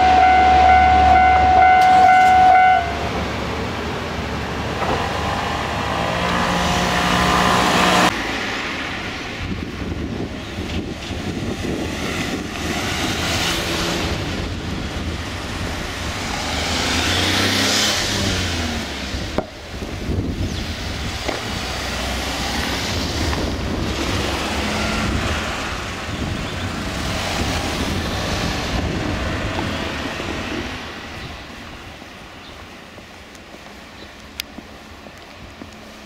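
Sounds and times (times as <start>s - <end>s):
cars driving past: 0.0s - 36.0s.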